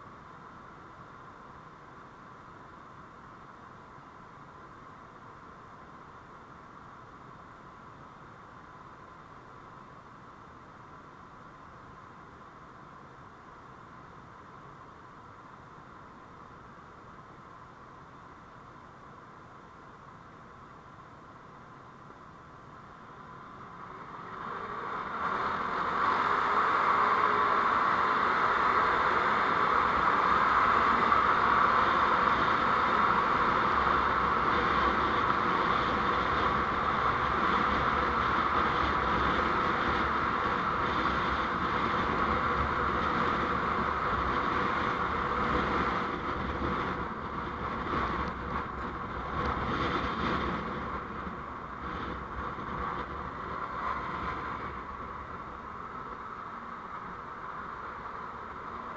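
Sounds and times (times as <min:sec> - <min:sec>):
road and wind noise: 0:00.0 - 0:58.9.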